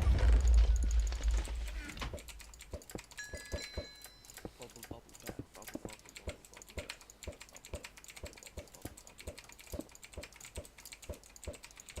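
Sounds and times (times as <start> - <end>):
dense rapid clicking: 0.0 - 3.2, 4.3 - 12.0.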